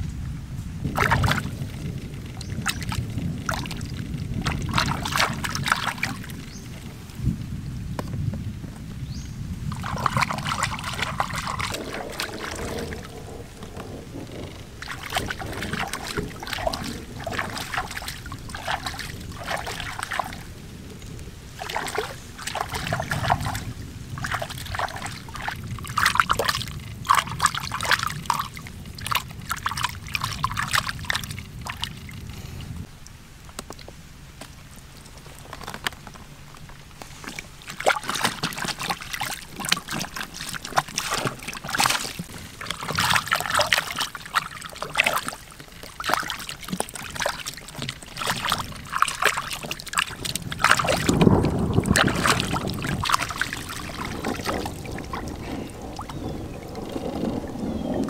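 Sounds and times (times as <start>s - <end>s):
steady low rumble: 0.0s - 35.4s, 46.9s - 58.0s
water sloshing and splashing: 0.0s - 58.0s.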